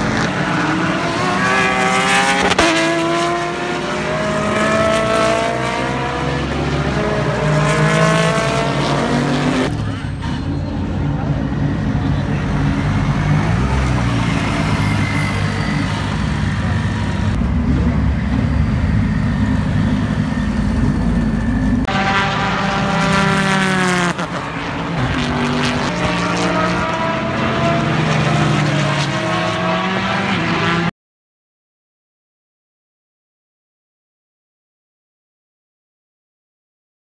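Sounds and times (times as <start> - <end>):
race car engine: 0.0 - 30.9.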